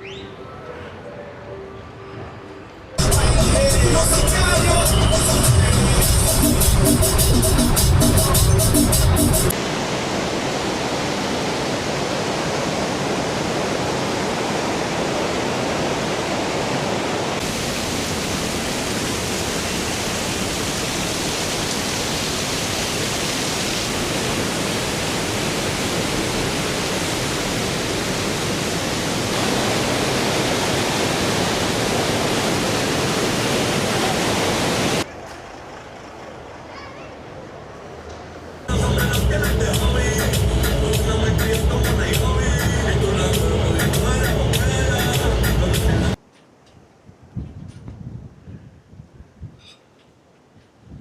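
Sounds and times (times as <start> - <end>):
waterfall roaring: 3.0 - 36.5, 38.0 - 46.2.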